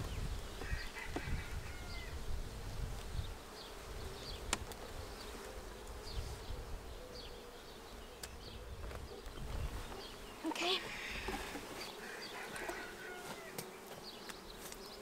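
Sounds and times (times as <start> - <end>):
bees humming: 0.0 - 15.0.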